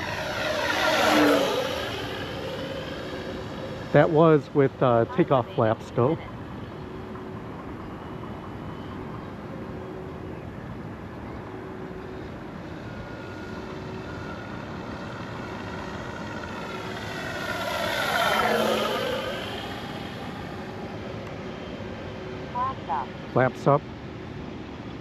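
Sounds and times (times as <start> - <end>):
model plane engine drone: 0.0 - 25.0.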